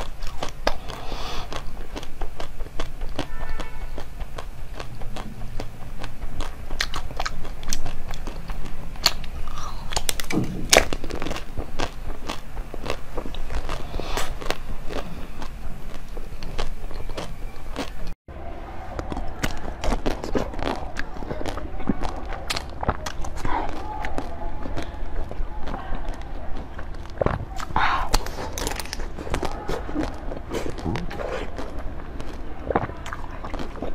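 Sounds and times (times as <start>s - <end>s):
crunching hard sweet: 0.0s - 18.2s, 18.8s - 33.9s
wet chewing: 0.0s - 18.2s, 18.8s - 33.9s.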